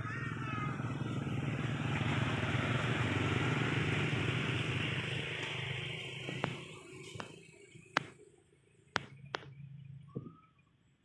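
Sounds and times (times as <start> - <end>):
passing vehicle engine: 0.0 - 10.1.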